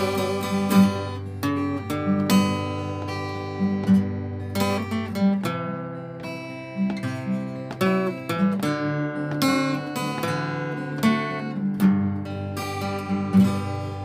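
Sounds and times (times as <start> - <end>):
acoustic guitar strumming and picking: 0.0 - 14.0.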